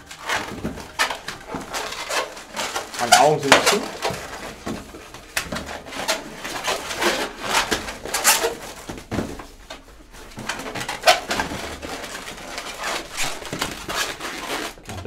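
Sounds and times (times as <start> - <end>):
balloon squeaking and rubbing: 0.0 - 15.0.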